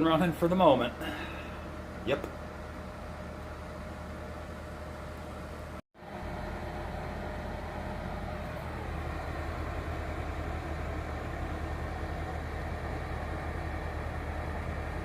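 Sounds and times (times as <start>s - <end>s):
furnace fans whirring hum: 0.0s - 15.0s.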